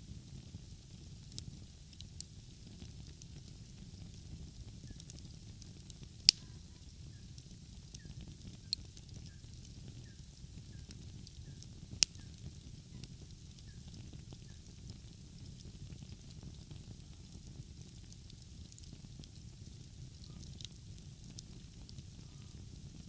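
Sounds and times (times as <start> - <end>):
fire popping: 0.0 - 23.0
wood fire crackling: 0.0 - 23.0.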